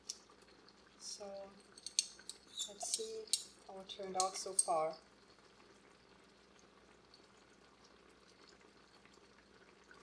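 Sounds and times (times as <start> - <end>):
faint bubbling of boiling pots: 0.0 - 10.0.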